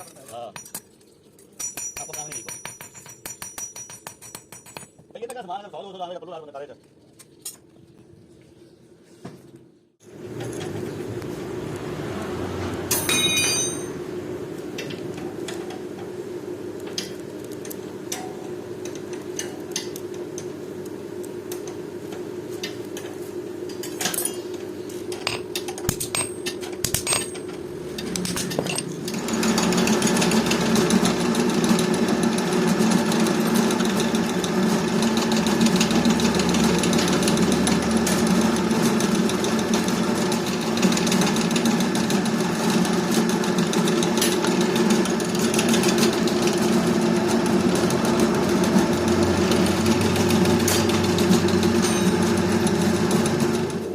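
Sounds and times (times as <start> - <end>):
low machine hum: 9.8 - 53.9
workshop machine running: 10.0 - 53.9.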